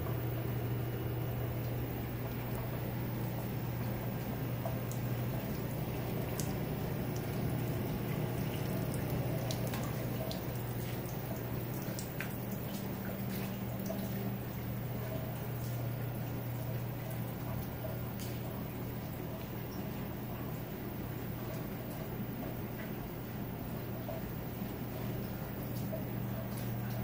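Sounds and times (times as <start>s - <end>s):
steady low hum: 0.0s - 27.0s
water dripping: 0.0s - 27.0s.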